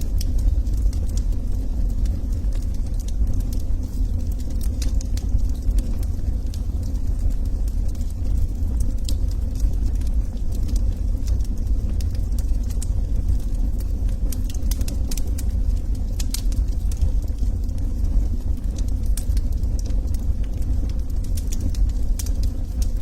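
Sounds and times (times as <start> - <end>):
log fire crackling and popping: 0.0 - 23.0.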